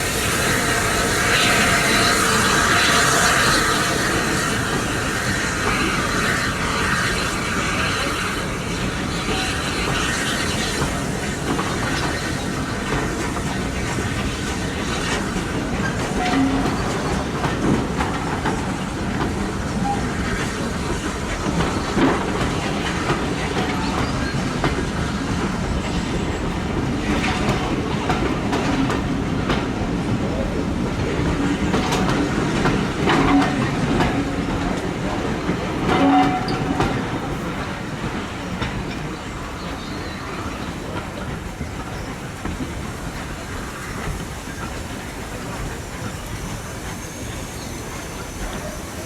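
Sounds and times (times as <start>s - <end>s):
train wheels clattering: 0.0s - 49.0s.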